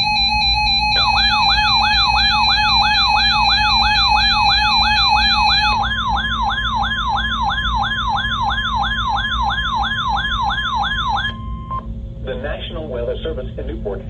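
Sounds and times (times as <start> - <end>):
steady alert tone: 0.0 - 11.7
siren-like alarm yelp: 0.0 - 11.9.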